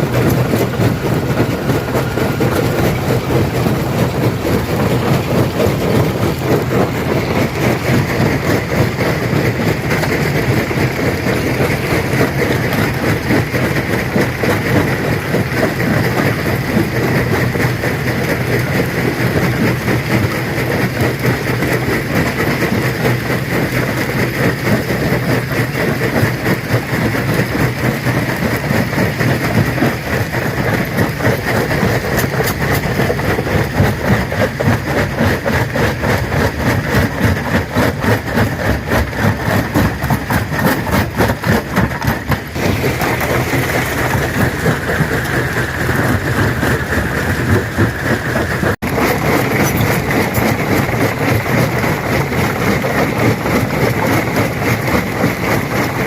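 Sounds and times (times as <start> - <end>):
machine drone: 0.0 - 56.0.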